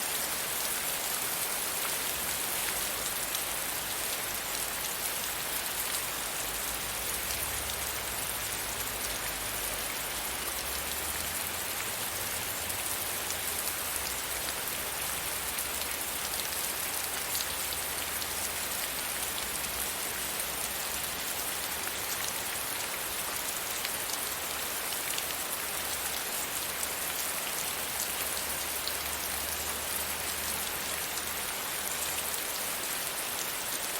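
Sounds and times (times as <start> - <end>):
light rain hiss: 0.0 - 33.9.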